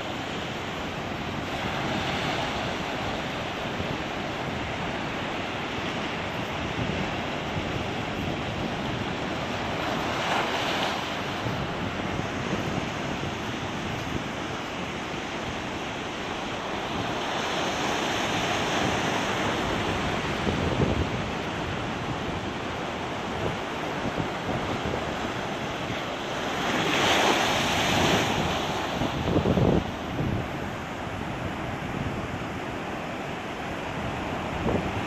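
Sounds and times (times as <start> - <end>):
ocean surf breaking over rocks: 0.0 - 35.0
wind buffeting microphone: 0.0 - 35.0.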